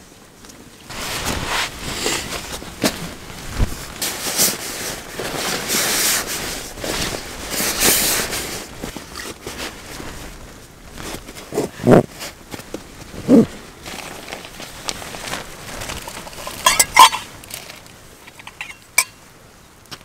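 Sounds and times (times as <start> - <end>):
nylon fabric rustling: 0.9 - 19.1.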